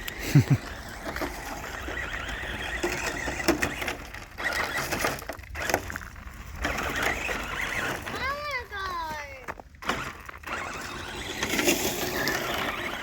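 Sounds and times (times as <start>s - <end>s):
toy car tyres rushing on loose ground: 0.0s - 13.0s.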